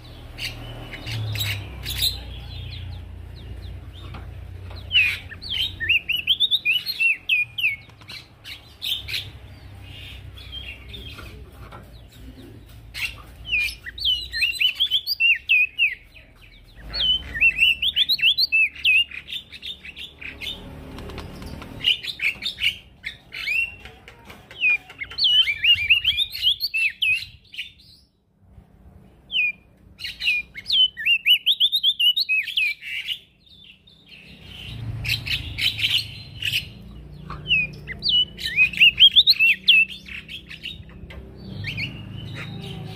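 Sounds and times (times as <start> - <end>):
bird singing high chirps: 0.0 - 11.2, 12.0 - 23.8, 24.6 - 28.2, 29.3 - 42.9.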